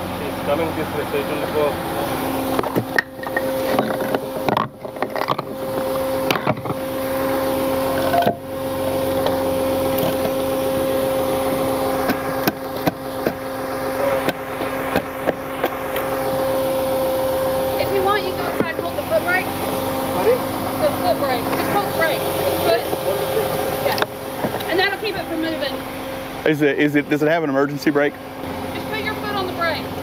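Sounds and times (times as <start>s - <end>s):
tow truck engine hum: 0.0s - 30.0s.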